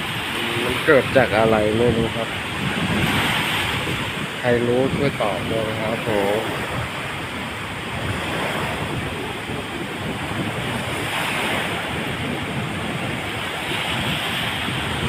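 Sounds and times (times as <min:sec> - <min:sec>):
waves washing onto sand: 0:00.0 - 0:15.0
wind on the microphone: 0:00.0 - 0:15.0.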